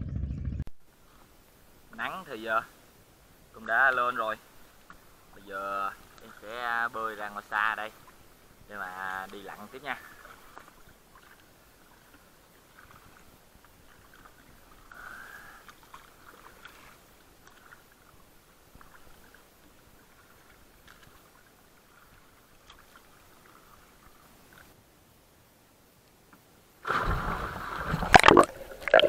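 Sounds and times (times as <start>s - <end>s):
water lapping and splashing: 0.8s - 24.8s, 26.8s - 29.0s.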